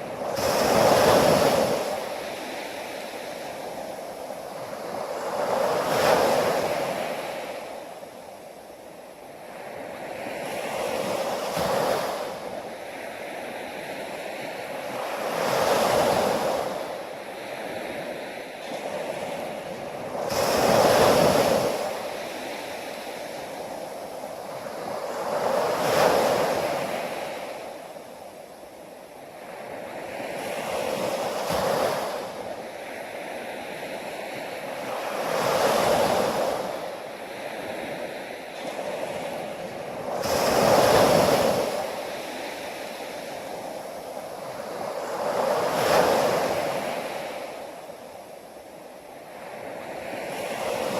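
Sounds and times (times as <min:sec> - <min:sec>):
ocean waves breaking: 0:00.0 - 0:08.6, 0:09.4 - 0:28.5, 0:29.4 - 0:50.9.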